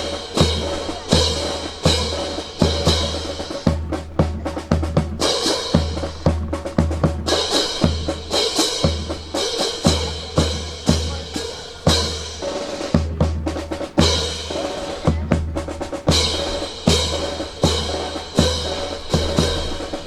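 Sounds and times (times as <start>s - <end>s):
bass drum and snare rhythm: 0.0s - 20.0s.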